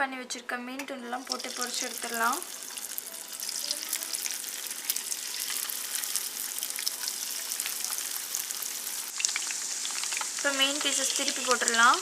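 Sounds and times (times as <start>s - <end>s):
fish sizzling in hot oil: 1.2s - 12.0s.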